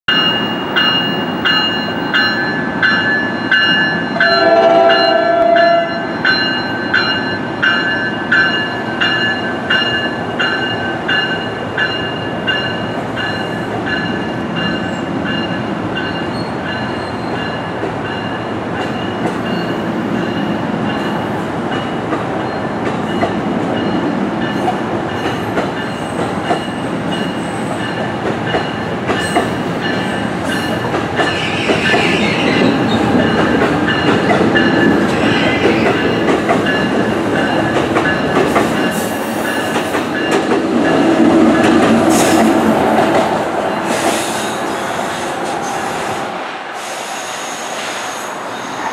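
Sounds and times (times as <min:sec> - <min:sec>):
train wheels rumbling on rails: 0:00.1 - 0:48.9.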